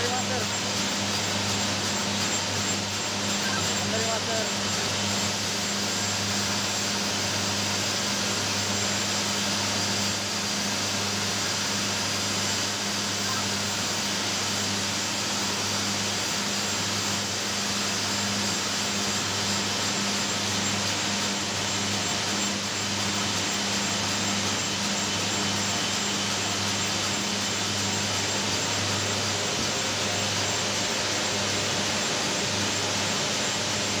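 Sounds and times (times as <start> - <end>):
turbine rushing hiss: 0.0 - 34.0.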